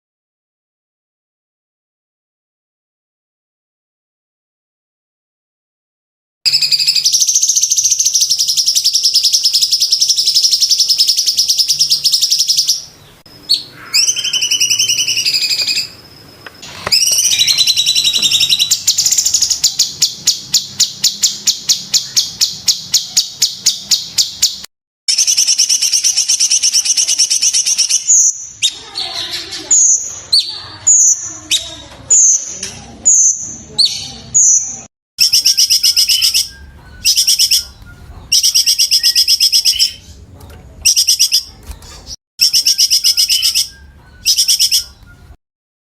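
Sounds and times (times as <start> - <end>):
bird singing fast trills: 6.5 - 40.2, 40.9 - 41.6, 42.4 - 45.4
sharp down-slurred bird calls: 6.5 - 40.2, 40.8 - 45.4.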